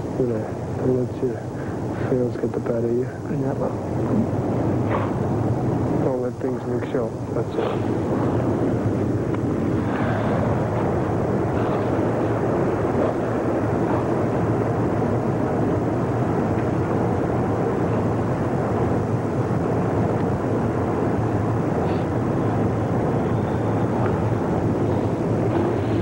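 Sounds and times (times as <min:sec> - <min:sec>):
steady outdoor rushing noise: 0:00.0 - 0:26.0.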